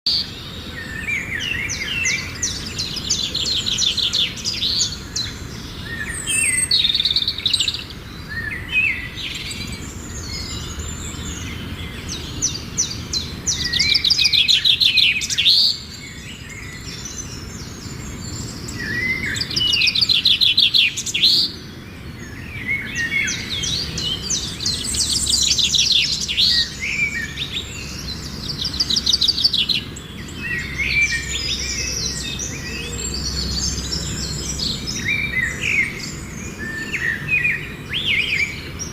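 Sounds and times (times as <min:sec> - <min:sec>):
birds singing rapid trills: 0:00.1 - 0:38.9.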